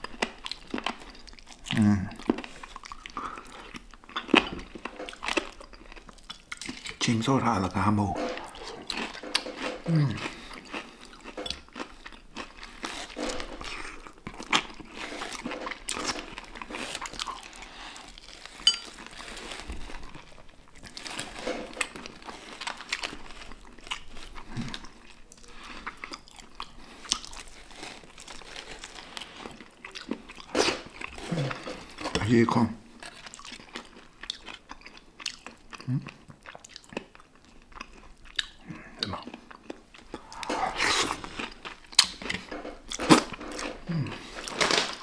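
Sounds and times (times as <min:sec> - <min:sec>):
person crunching fried chicken: 0:07.8 - 0:32.1, 0:33.0 - 0:45.0.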